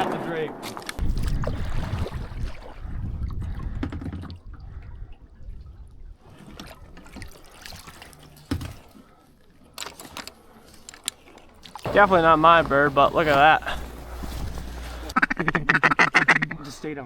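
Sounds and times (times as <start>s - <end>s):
water trickling and sloshing: 0.0s - 15.2s.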